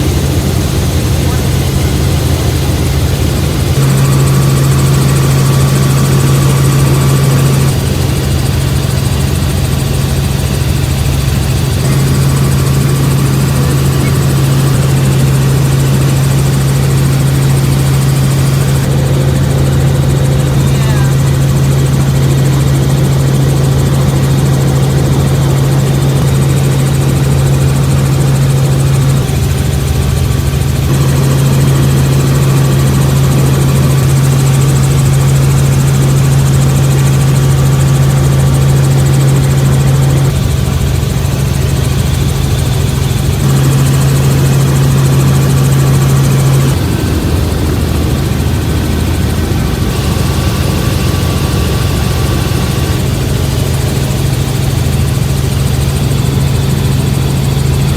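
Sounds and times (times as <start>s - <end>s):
helicopter cabin drone: 0.0s - 57.9s.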